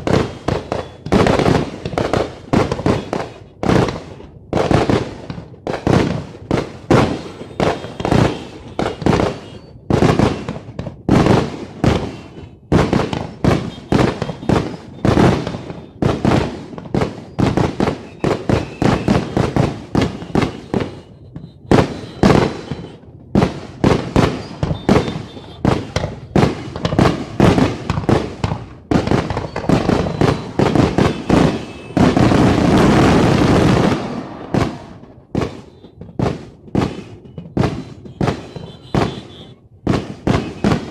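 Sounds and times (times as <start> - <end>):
fireworks banging: 0.0 - 40.9.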